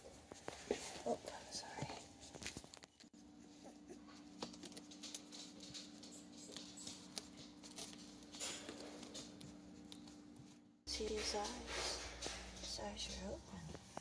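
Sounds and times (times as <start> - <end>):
puppy scratching and shuffling: 0.0 - 14.0.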